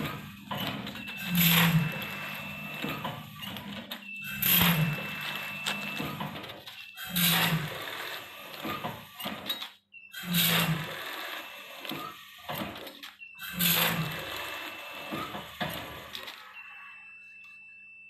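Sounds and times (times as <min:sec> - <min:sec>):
packaging machine motor hum: 0:00.0 - 0:17.2.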